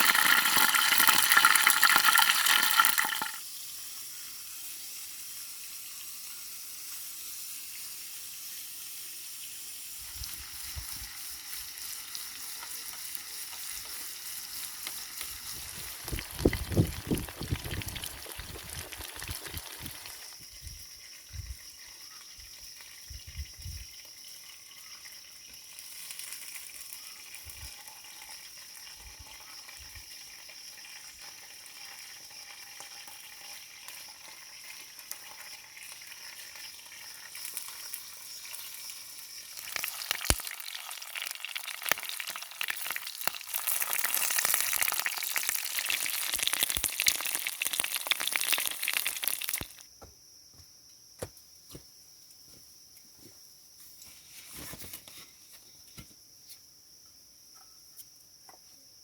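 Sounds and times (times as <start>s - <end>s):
food sizzling in a pan: 0.0s - 49.8s.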